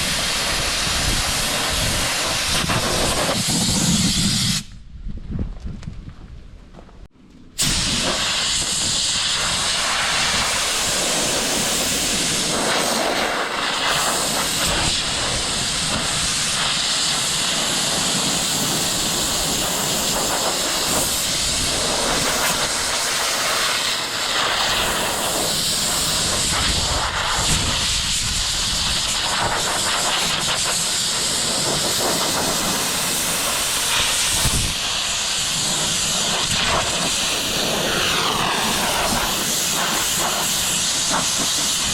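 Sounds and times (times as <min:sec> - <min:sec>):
compressed air hose hissing: 0:00.0 - 0:04.7, 0:07.6 - 0:41.9.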